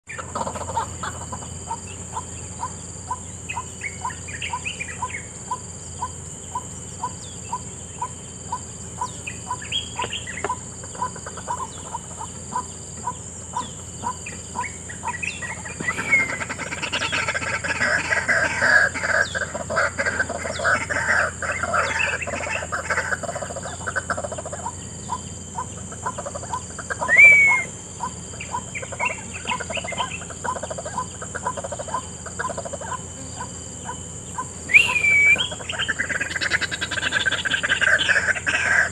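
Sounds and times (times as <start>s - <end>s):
waterhens calling: 0.0s - 38.9s.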